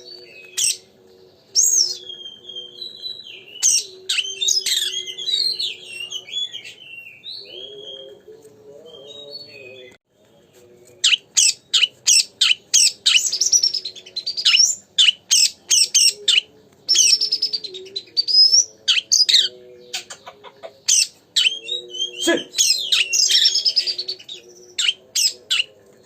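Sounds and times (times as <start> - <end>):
bird singing chirps and whistles: 0.0 - 8.2, 11.1 - 19.6, 20.9 - 25.8.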